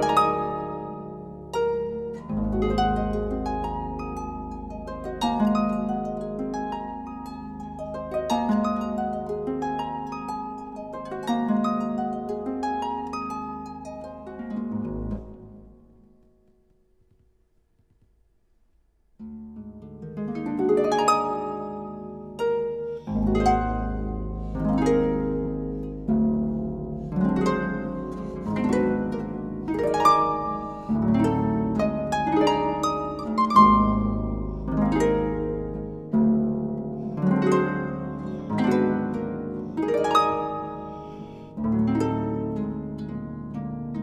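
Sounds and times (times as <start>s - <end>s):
harp playing: 0.0s - 16.6s, 19.2s - 44.0s.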